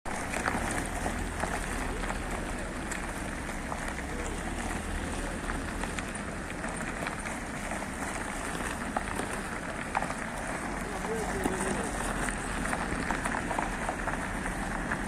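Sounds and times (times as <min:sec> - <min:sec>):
cars driving on gravel road: 0:00.1 - 0:15.0.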